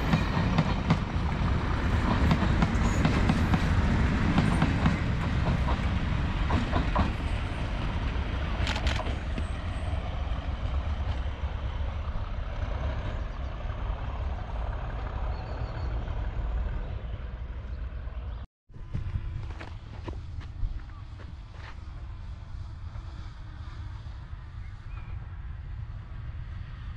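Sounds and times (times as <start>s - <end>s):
locomotive engine and wheels rumbling: 0.0s - 26.9s.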